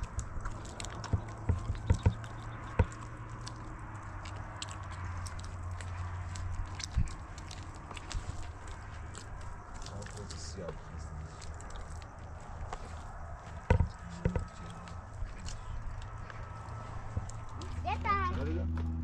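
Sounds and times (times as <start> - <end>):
sharp knocks and clicks: 0.0 - 10.8, 12.7 - 17.8
dough being kneaded by hand: 0.0 - 18.2
low steady hum: 0.0 - 19.0.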